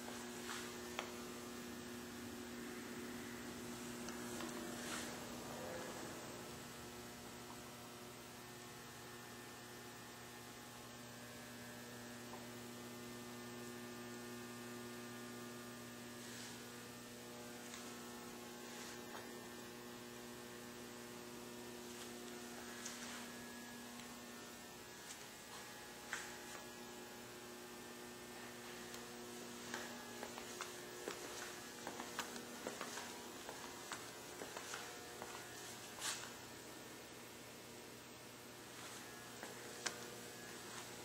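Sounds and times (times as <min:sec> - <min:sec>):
electrical mains hum: 0:00.0 - 0:41.0.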